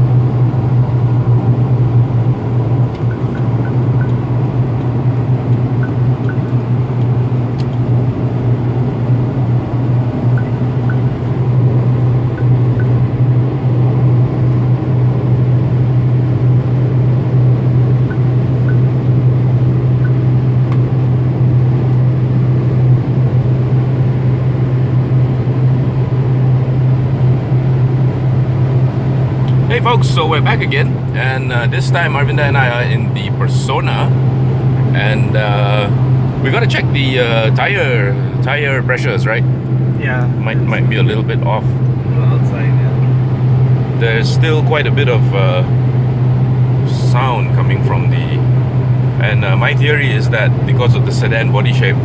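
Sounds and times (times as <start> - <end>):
car cabin hum: 0.0 - 52.0
road and tyre rumble: 0.0 - 52.0.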